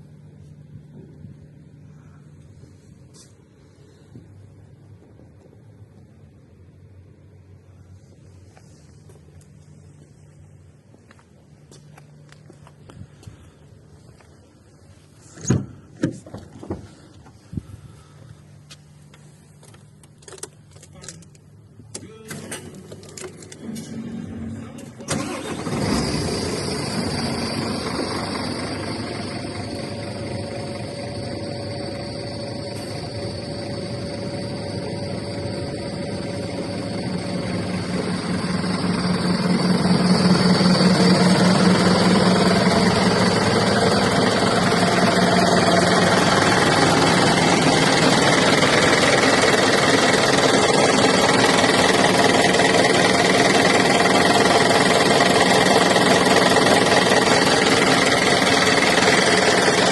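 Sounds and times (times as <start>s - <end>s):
diesel truck engine starting and idling: 0.0s - 59.9s.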